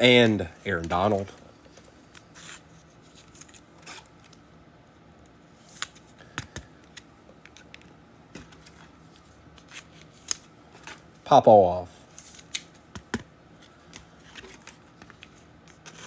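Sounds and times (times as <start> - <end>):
trading cards clicking and rustling: 0.0 - 4.4, 5.6 - 11.1, 12.1 - 16.0.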